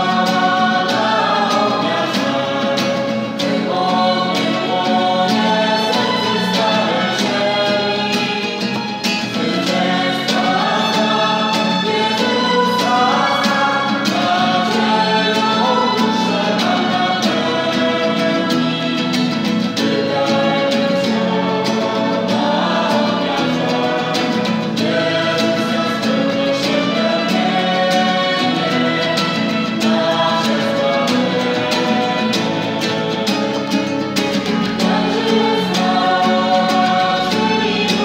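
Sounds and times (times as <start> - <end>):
choir singing: 0.0 - 38.0
instrumental accompaniment: 0.0 - 38.0.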